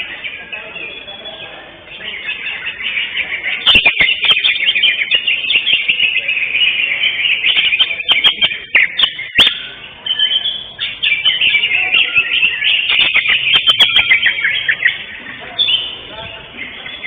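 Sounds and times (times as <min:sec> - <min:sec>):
bird song with rapid chirps: 0:00.0 - 0:17.0.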